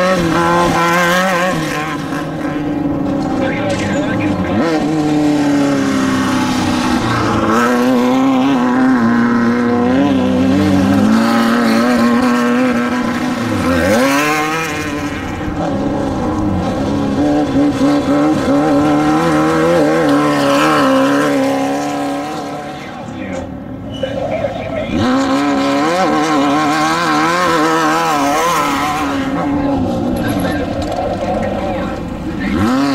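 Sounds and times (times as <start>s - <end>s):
race vehicle engine revving: 0.0s - 32.9s.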